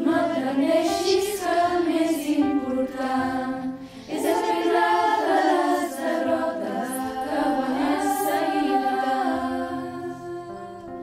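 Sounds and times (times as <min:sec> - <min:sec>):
choir singing harmonies: 0:00.0 - 0:11.0.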